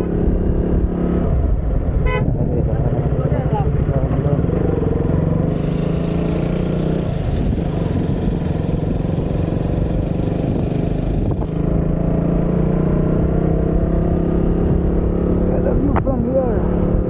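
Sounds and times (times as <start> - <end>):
motorcycle engine running: 1.8 - 17.0.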